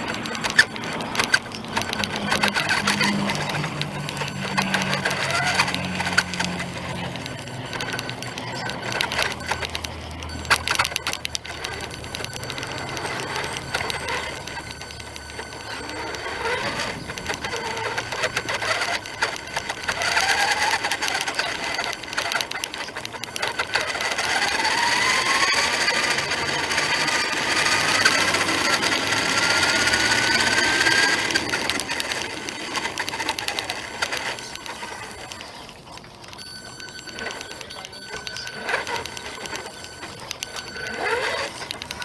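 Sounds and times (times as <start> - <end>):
dense rattle of fine clicks: 0.0 - 42.0
rc car electric motor whining: 0.0 - 42.0.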